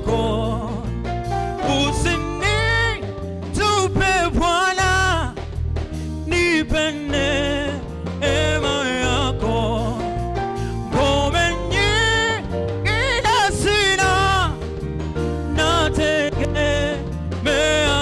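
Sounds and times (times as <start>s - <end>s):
gospel hymn singing: 0.0s - 18.0s
low bass line: 0.0s - 18.0s.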